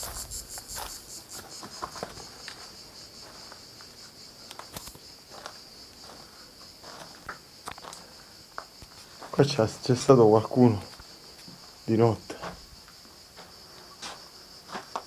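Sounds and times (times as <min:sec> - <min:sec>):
footsteps on loose stones: 0:00.0 - 0:15.0
insects trilling: 0:00.0 - 0:15.0.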